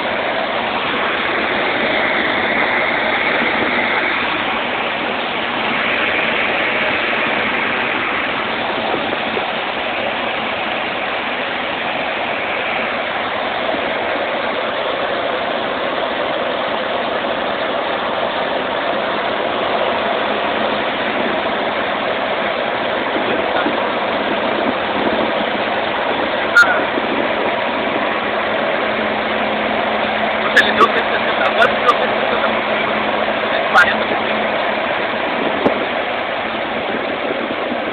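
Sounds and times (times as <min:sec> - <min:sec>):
light aircraft engine in cabin: 0:00.0 - 0:37.9.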